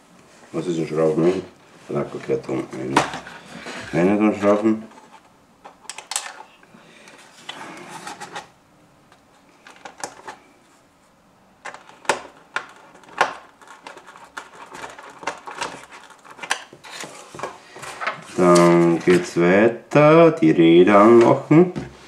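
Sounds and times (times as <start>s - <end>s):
soft rustling of plastic parts: 0.1s - 19.5s.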